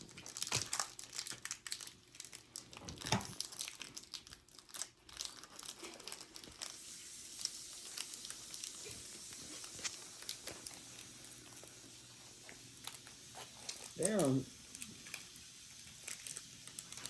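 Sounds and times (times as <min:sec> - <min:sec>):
foil wrapper crinkling and tearing: 0:00.0 - 0:17.0.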